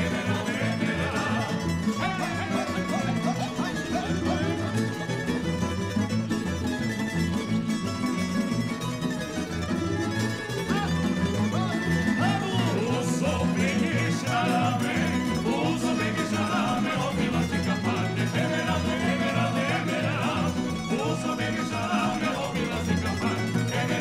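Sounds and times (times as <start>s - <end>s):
plucked string ensemble folk music: 0.0s - 24.0s.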